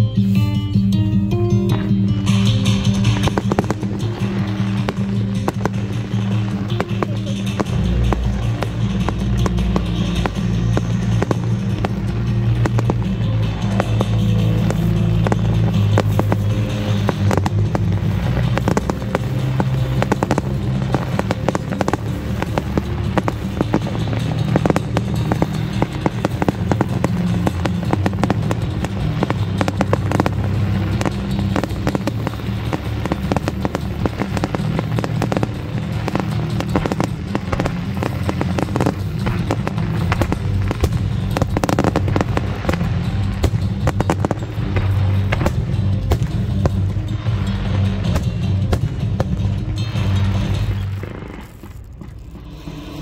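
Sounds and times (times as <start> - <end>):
fireworks bangs and crackles: 1.7 - 53.0.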